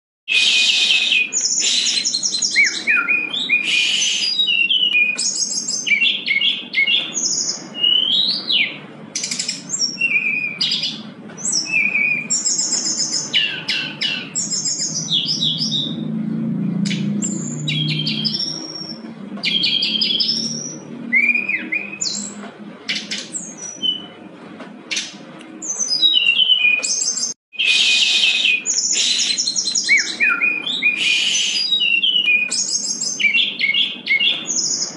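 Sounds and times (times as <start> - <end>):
bird singing chirps and trills: 0.3 - 34.9.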